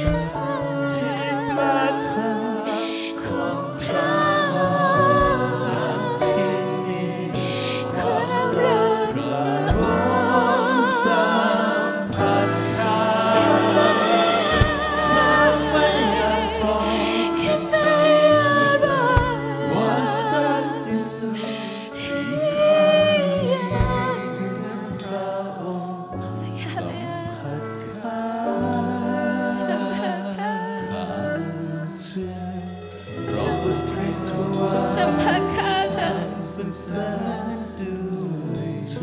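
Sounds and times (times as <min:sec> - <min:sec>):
electric guitar: 0:00.0 - 0:39.0
keyboard: 0:00.0 - 0:39.0
voices singing with vibrato: 0:00.0 - 0:39.0.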